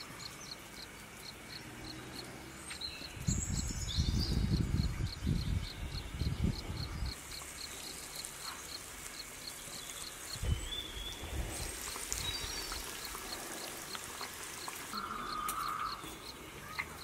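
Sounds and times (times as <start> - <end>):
insect chirping: 0.0 - 17.0
patties sizzling in hot oil: 0.0 - 17.0.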